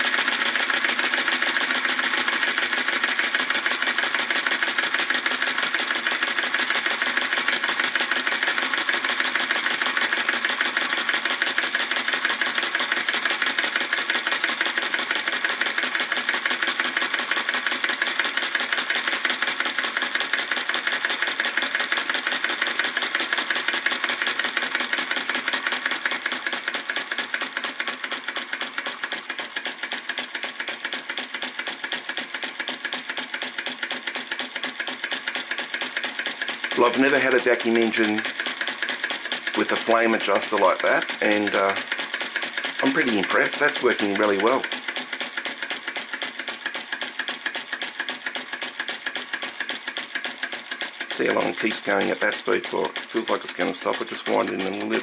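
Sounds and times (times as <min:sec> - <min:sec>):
small engine clattering ticks: 0:00.0 - 0:55.0.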